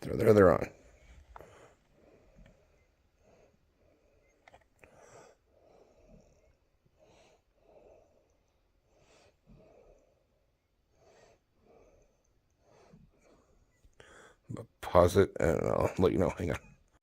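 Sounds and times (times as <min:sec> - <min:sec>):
person breathing softly: 0:00.7 - 0:14.5.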